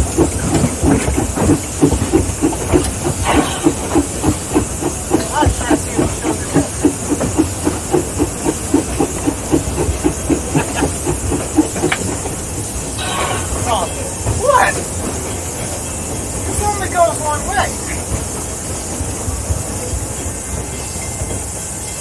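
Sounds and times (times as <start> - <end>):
steam hissing: 0.0 - 22.0
steam locomotive chuffing: 0.0 - 22.0.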